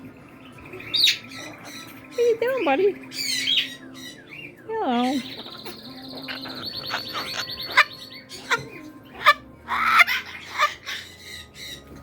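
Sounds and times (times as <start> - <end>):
parrot squawking: 0.8 - 11.9.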